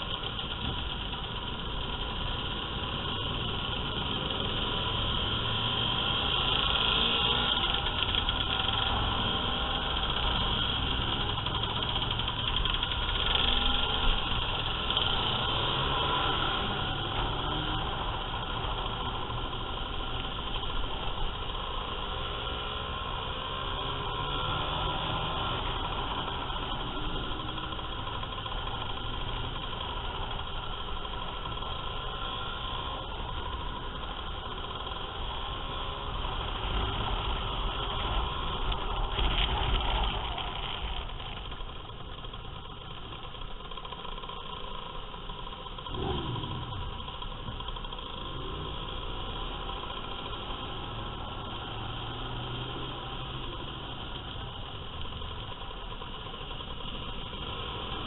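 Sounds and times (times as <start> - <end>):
scooter engines running: 0.0 - 58.0.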